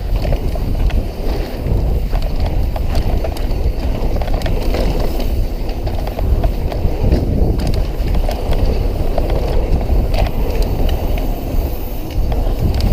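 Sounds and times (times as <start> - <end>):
bike clicks and rattles: 0.0 - 12.9
tyre rumble on dirt: 0.0 - 12.9
wind buffeting microphone: 0.0 - 12.9.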